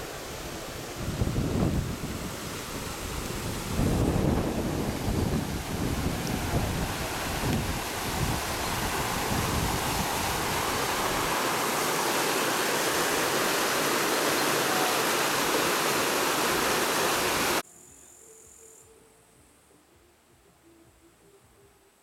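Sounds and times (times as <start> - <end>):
water rushing over stones: 0.0 - 17.6.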